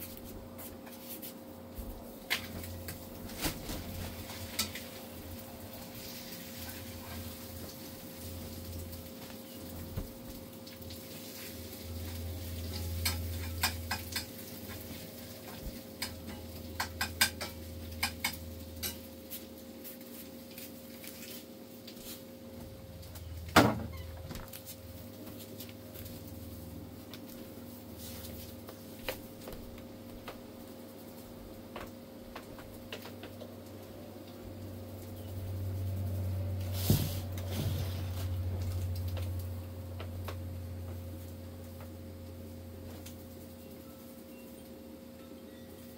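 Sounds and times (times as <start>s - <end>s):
low household hum: 0.0s - 45.9s.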